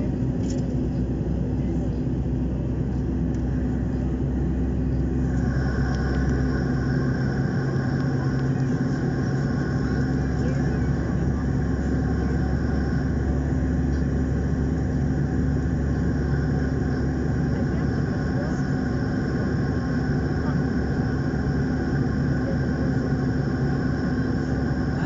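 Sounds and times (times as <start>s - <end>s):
high steady whine: 0.0s - 25.0s
jet engine drone in cabin: 0.0s - 25.0s
rushing airflow: 2.9s - 25.0s.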